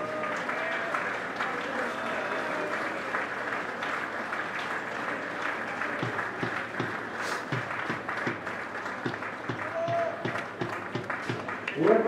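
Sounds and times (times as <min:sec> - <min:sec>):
crowd clapping: 0:00.0 - 0:12.0.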